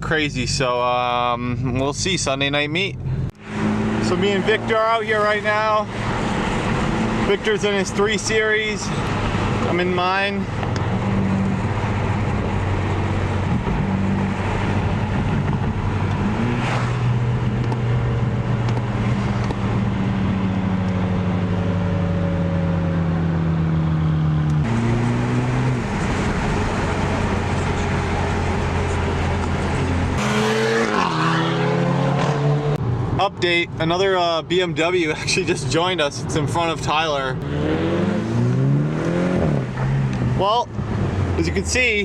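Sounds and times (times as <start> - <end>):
car engine droning: 0.0 - 42.0
road noise: 0.0 - 42.0.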